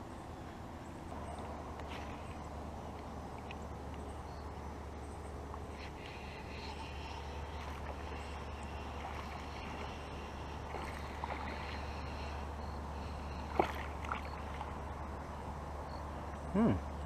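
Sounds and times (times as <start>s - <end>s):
faint water noise: 0.0s - 17.0s
steady low rumble: 0.0s - 17.0s.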